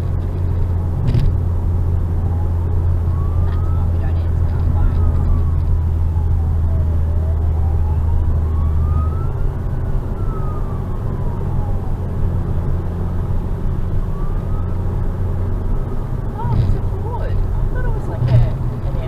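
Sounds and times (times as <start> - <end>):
road and engine drone: 0.0 - 19.0
police siren wailing: 2.0 - 19.0.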